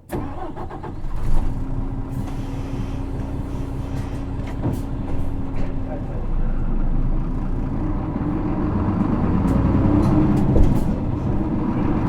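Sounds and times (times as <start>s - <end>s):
bus diesel engine hum: 0.0s - 12.0s.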